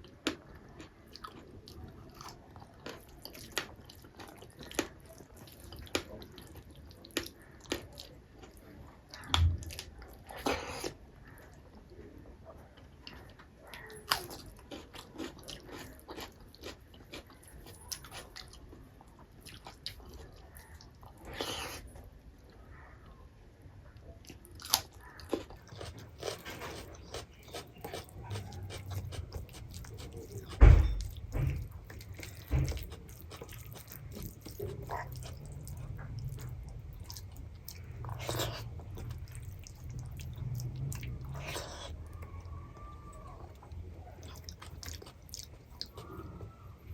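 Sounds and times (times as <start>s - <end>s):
chewing and biting: 0.0s - 11.4s, 12.8s - 22.0s, 24.2s - 46.6s
crunch: 0.0s - 11.7s, 12.8s - 22.6s, 24.0s - 46.6s.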